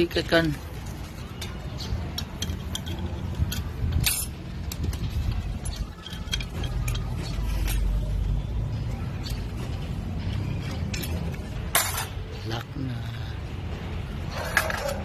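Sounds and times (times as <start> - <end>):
metal parts clicking and clinking: 0.0 - 8.5, 9.2 - 12.8, 14.3 - 15.0.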